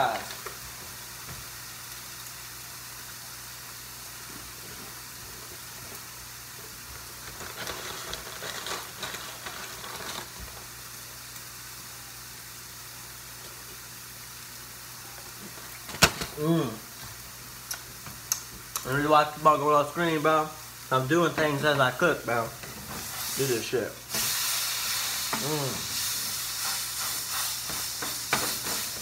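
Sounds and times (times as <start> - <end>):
meat sizzling in a pan: 0.0 - 29.0.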